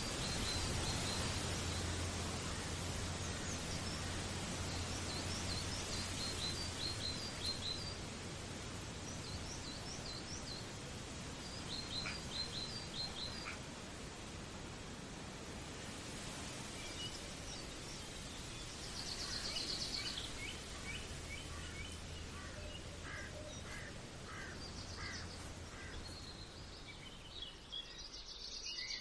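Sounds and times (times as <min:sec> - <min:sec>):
small birds chirping: 0:00.0 - 0:08.2, 0:08.9 - 0:14.3, 0:16.6 - 0:29.0
steady background hiss: 0:00.0 - 0:29.0.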